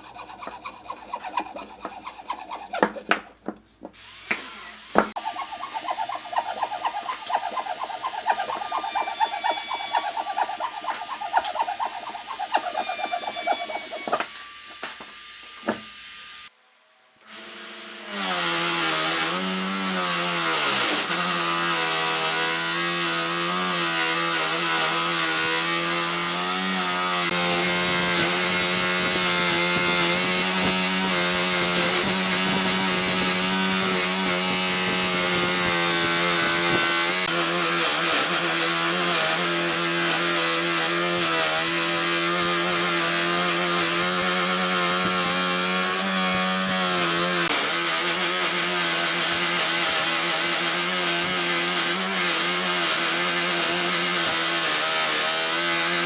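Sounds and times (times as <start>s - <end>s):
chainsaw cutting wood: 0.0s - 16.5s, 17.2s - 56.0s.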